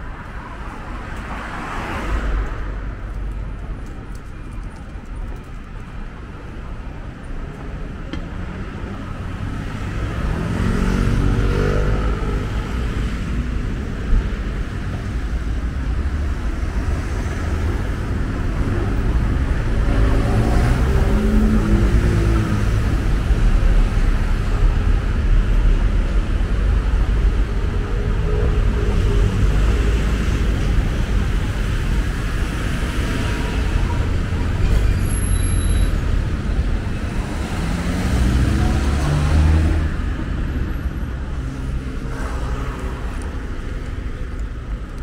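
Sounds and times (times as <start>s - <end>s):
cars passing: 0.0s - 4.3s, 6.2s - 45.0s
low traffic rumble: 0.0s - 45.0s.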